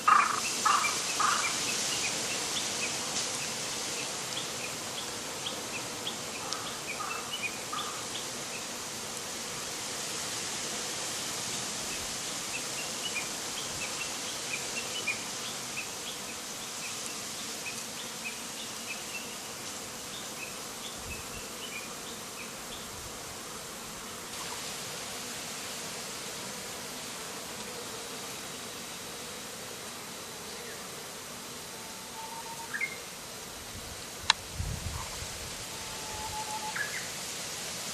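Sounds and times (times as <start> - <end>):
bees buzzing: 0.0 - 37.9
steady hiss: 0.0 - 37.9.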